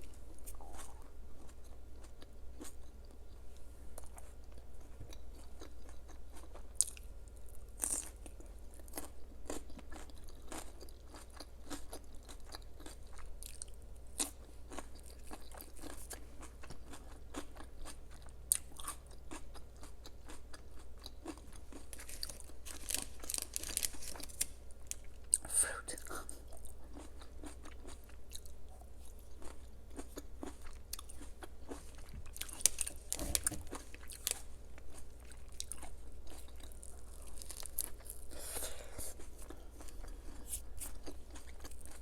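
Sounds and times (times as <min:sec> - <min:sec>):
chewing crunchy food: 0:00.0 - 0:42.0.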